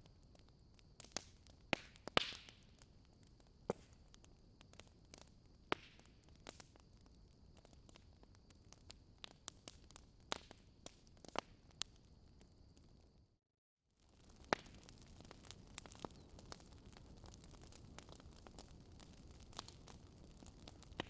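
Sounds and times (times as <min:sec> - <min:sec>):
wood fire crackling: 0:00.0 - 0:13.2, 0:14.0 - 0:21.0.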